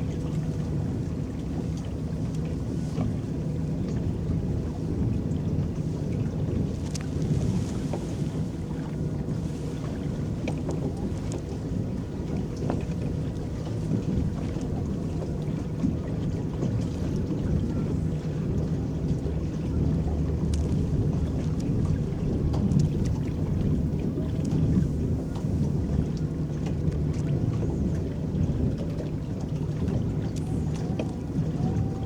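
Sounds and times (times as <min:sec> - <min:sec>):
boat rumbling: 0:00.0 - 0:32.0
paddles churning water: 0:00.0 - 0:32.0.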